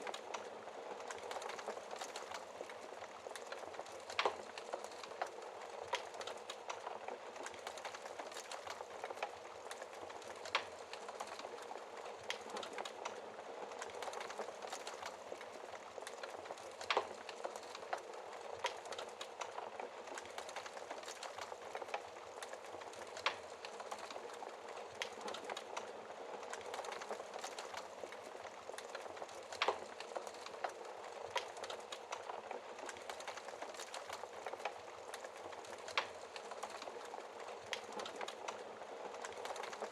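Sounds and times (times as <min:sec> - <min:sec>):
logs crackling: 0:00.0 - 0:39.9.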